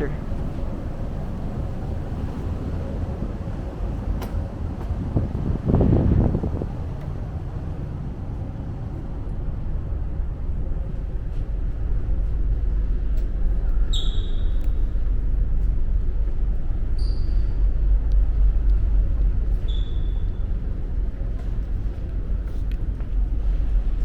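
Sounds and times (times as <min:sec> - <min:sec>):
ferry engine low rumble: 0:00.0 - 0:24.0.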